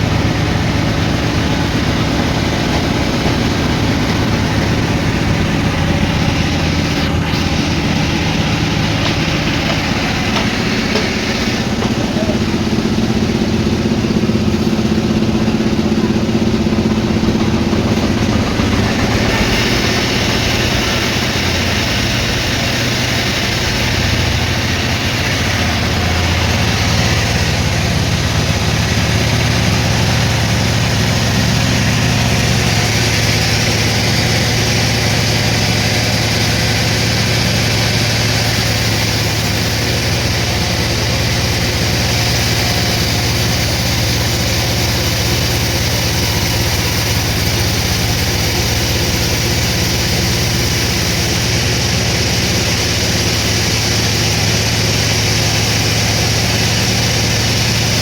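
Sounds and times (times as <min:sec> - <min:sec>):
harsh high machine noise: 0:00.0 - 0:58.0
sawmill machinery humming: 0:00.0 - 0:58.0.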